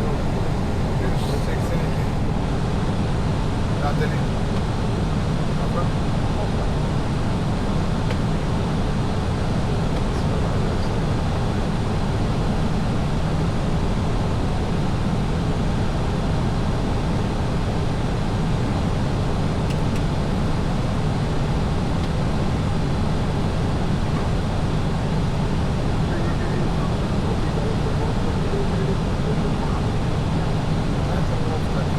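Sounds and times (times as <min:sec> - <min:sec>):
airliner cabin noise: 0:00.0 - 0:31.9.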